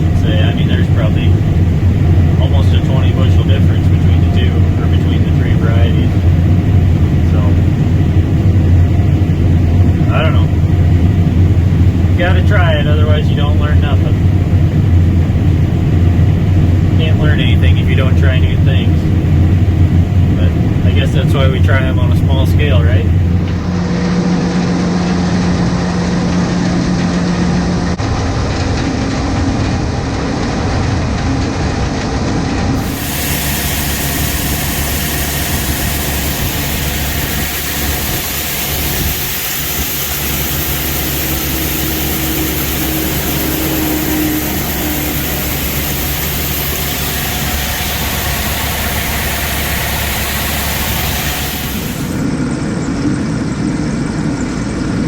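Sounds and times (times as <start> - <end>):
combine harvester drone: 0.0 - 55.0.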